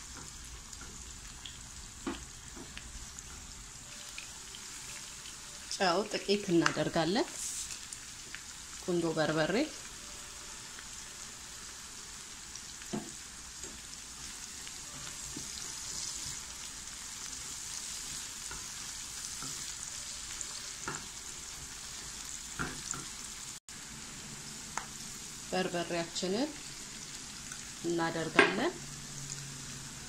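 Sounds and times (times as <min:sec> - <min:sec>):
onions sizzling in a frying pan: 0:00.0 - 0:30.0.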